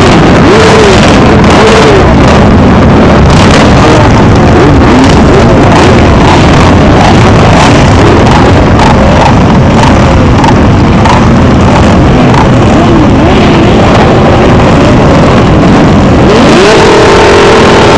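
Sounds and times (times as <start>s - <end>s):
motorcycle engines revving: 0.0s - 17.9s.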